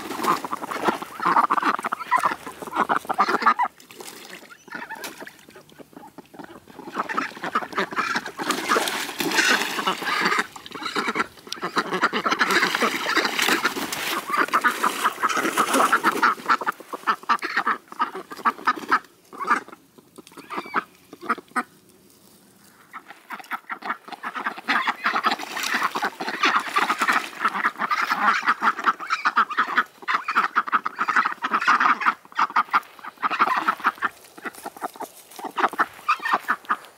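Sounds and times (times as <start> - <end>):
ducks quacking: 0.0 - 21.8, 22.7 - 36.9.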